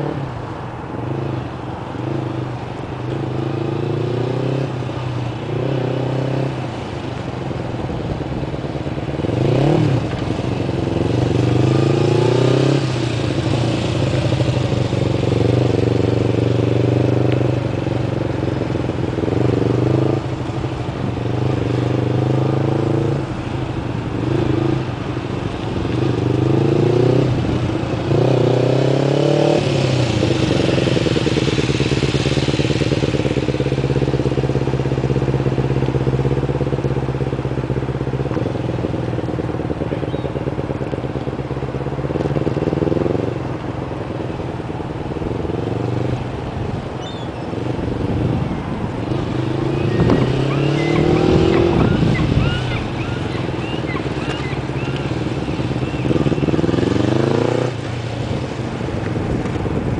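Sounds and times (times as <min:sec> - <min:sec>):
motorcycle engine revving: 0:03.0 - 0:07.0, 0:07.8 - 0:43.6, 0:44.3 - 0:59.9.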